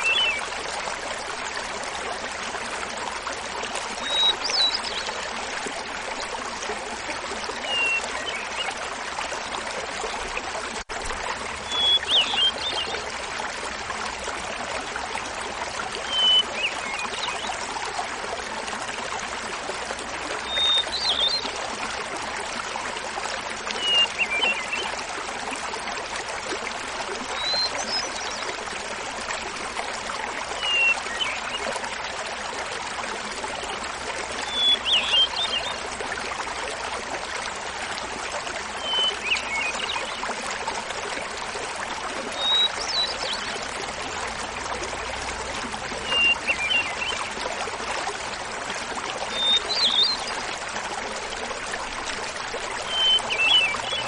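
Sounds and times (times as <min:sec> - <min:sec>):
small waterfall babbling: 0:00.0 - 0:54.0.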